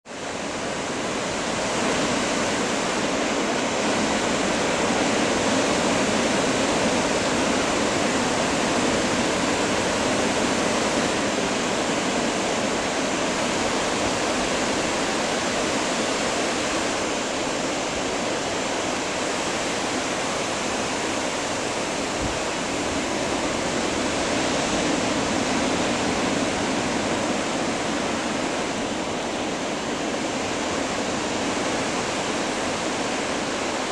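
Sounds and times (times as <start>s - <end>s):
ocean waves breaking: 0.1s - 33.9s.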